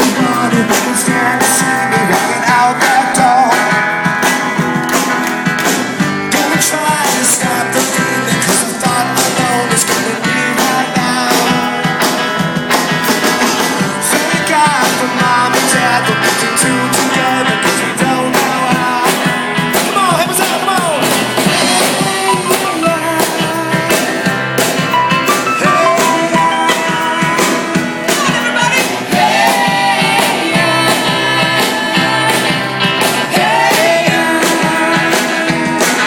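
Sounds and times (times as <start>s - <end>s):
person singing: 0.0s - 3.9s, 6.3s - 12.2s, 13.8s - 24.3s, 25.2s - 36.0s
upbeat rock song: 0.0s - 36.0s.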